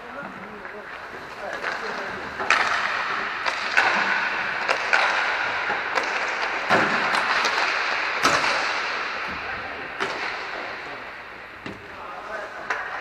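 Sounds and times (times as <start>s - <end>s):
skate wheels rolling on plastic: 0.0s - 13.0s
sticks and pucks clacking: 0.0s - 13.0s.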